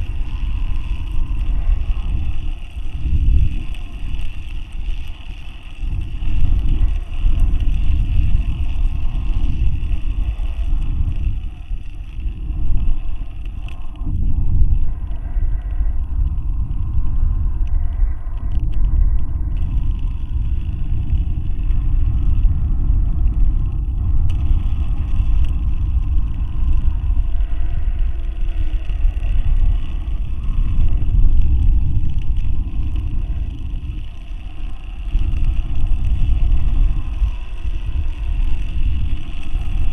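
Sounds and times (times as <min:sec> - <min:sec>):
loud uneven low rumble: 0:00.0 - 0:39.9.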